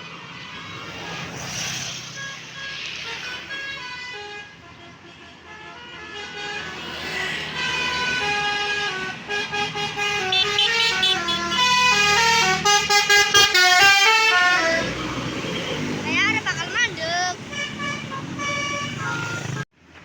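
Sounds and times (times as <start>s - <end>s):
bus multi-trumpet horn tune: 0.4s - 19.7s.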